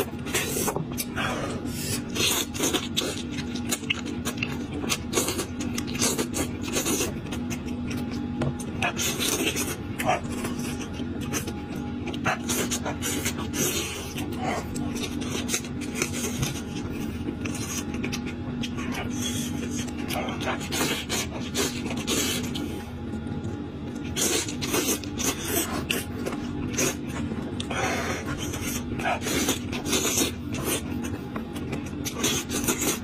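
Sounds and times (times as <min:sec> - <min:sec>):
person eating off bones: 0:00.0 - 0:33.0.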